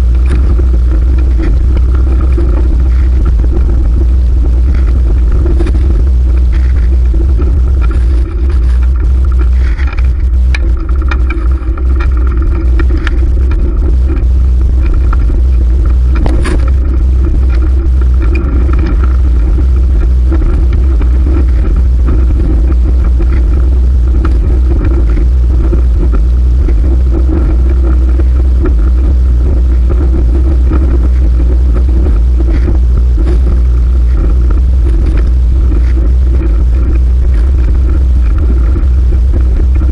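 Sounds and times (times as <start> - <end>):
bicycle tyre and road noise: 0.0 - 39.9
clicks and scrapes: 0.0 - 39.9
wind rumble on microphone: 0.0 - 39.9.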